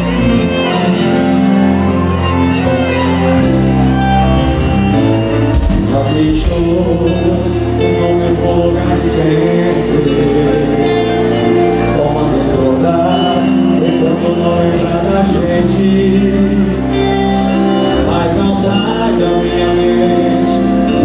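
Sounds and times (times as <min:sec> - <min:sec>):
accordion: 0:00.0 - 0:21.0
drums: 0:00.0 - 0:21.0
keyboards: 0:00.0 - 0:21.0.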